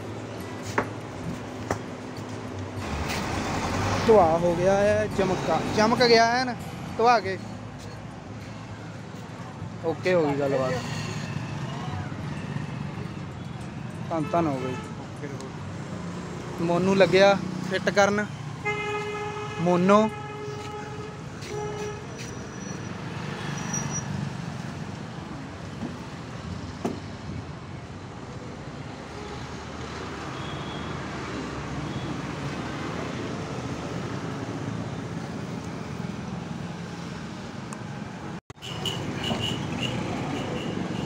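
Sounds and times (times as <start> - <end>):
street traffic noise: 0.0 - 41.0.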